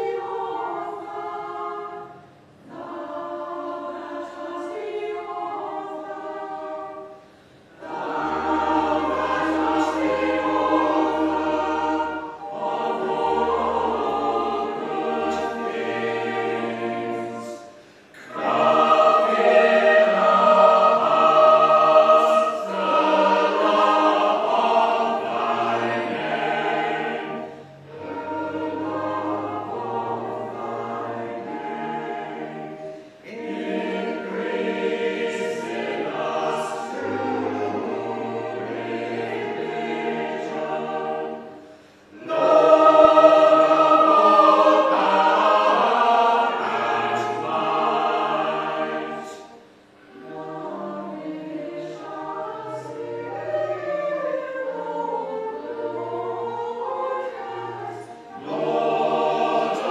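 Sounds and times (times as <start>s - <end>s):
choir singing in parts: 0.0s - 59.9s.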